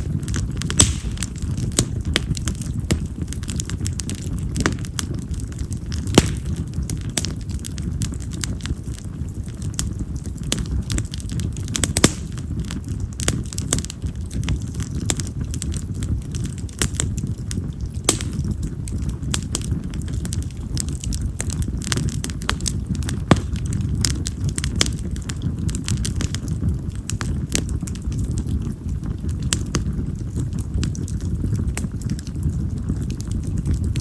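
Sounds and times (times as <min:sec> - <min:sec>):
fire crackling and popping: 0:00.0 - 0:34.0
low rush of flame: 0:00.0 - 0:34.0.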